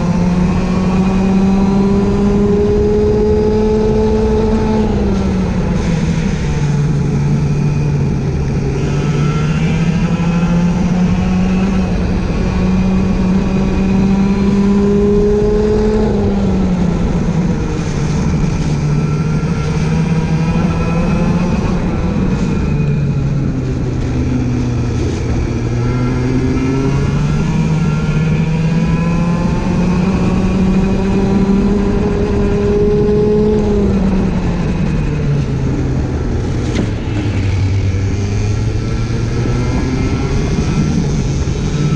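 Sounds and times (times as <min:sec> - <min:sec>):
go-kart engine revving: 0:00.0 - 0:41.9.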